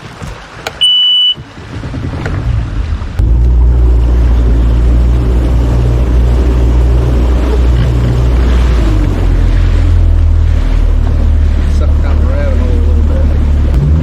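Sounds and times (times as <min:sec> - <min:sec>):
water rushing: 0:00.0 - 0:14.0
outboard motor running: 0:00.6 - 0:14.0.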